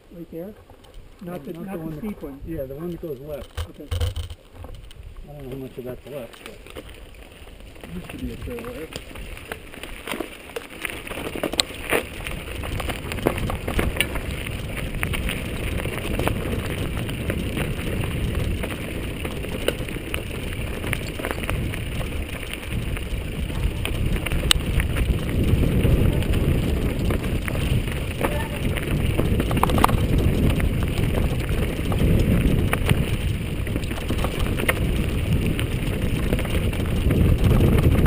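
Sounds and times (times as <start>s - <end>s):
bike rattling: 0.0s - 38.0s
wind rumbling on microphone: 0.0s - 38.0s
tyres crunching over dirt and stones: 0.1s - 38.0s.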